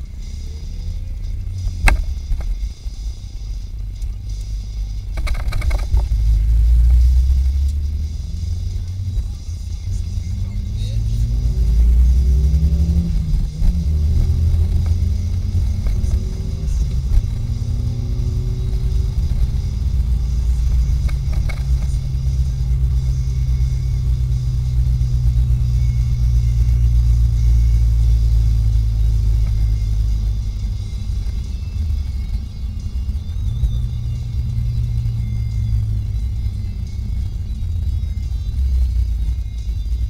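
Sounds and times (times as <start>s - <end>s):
car engine drone from inside: 0.0s - 40.0s.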